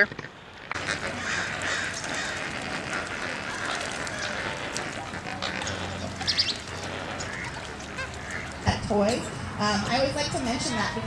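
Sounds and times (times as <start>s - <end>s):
waterbirds honking and gabbling: 0.6s - 11.0s.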